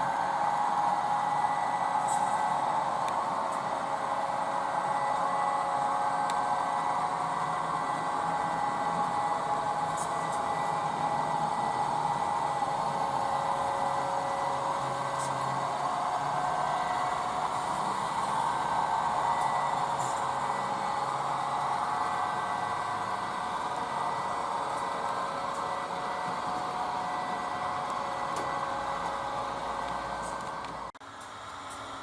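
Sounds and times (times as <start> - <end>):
model train whirring: 0.0 - 32.0.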